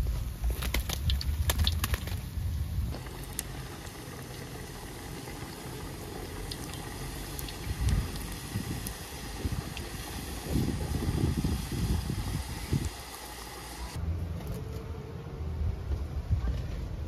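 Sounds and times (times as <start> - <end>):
oil sizzling and bubbling: 0.0 - 14.0.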